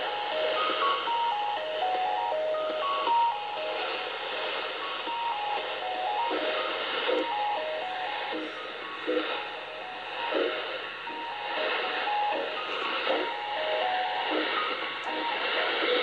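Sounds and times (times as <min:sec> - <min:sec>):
radio music with simple melody: 0:00.0 - 0:16.0
static hiss: 0:00.0 - 0:16.0.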